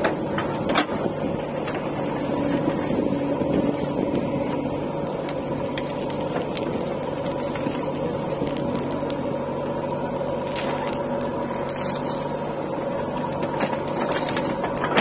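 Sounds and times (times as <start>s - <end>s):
diesel engine whining under load: 0.0s - 15.0s.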